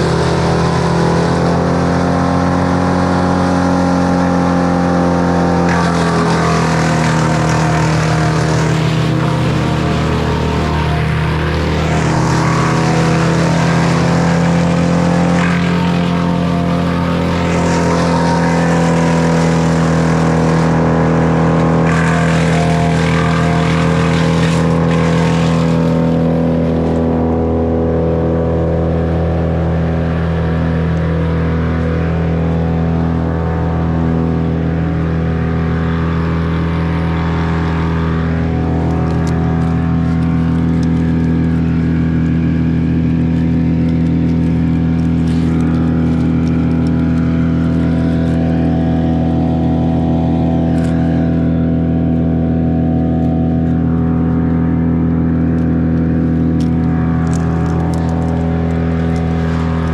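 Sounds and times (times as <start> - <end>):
engine running steadily: 0.0 - 59.9
rough noisy layer: 0.0 - 59.9.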